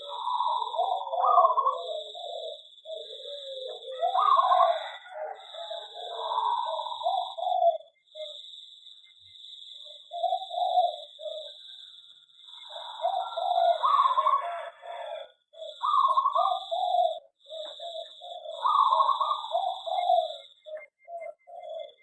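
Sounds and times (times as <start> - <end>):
doves cooing: 0.0 - 8.5, 9.8 - 22.0.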